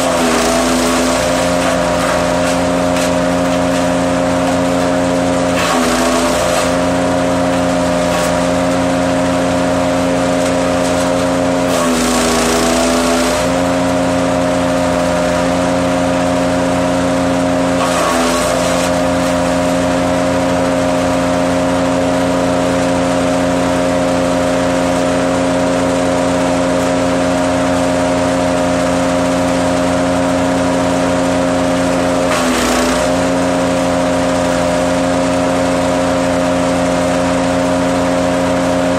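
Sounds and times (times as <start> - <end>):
wood chipper running: 0.0 - 38.9
wood grinding in chipper: 0.0 - 38.9.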